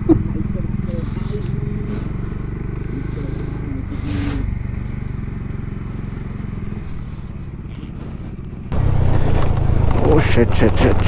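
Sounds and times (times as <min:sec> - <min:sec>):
road noise: 0:00.0 - 0:11.0
scooter engine running: 0:00.0 - 0:11.0.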